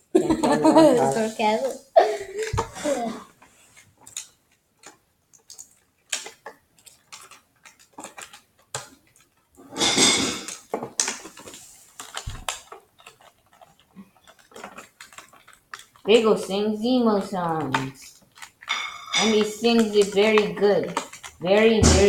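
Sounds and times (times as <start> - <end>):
rustling: 0.2 - 22.0
small objects clicking and tapping: 4.0 - 22.0.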